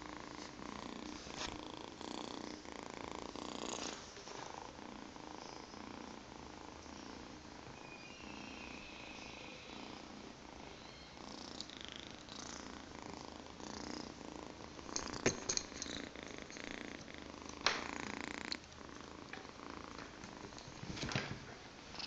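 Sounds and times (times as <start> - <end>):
kitten purring: 0.0 - 22.0.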